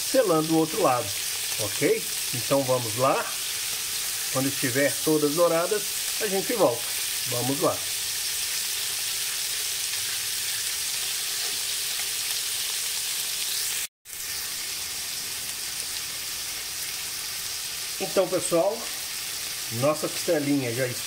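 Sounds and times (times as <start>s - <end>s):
meat sizzling in hot fat: 0.0s - 21.0s.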